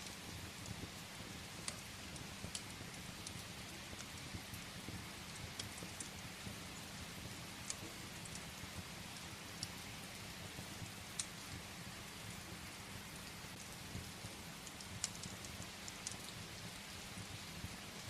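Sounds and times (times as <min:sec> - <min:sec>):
firewood crackling: 0:00.0 - 0:18.0
rain against a window: 0:00.0 - 0:18.0.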